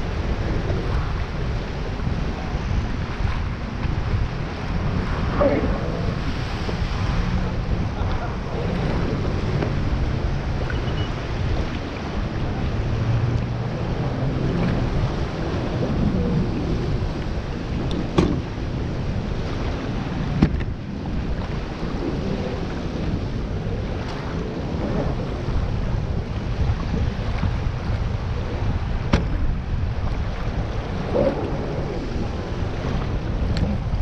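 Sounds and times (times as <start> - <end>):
faint jetski engine hum: 0.0 - 34.0
water lapping at shore: 0.0 - 34.0
wind buffeting microphone: 0.0 - 34.0.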